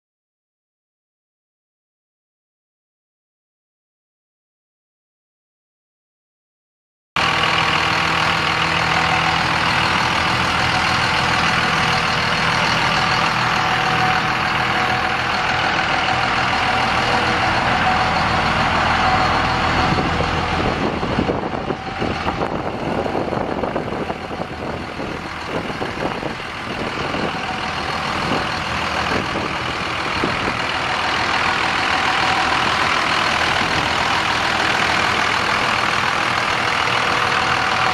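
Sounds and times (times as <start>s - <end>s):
diesel engine idling: 7.2s - 37.9s.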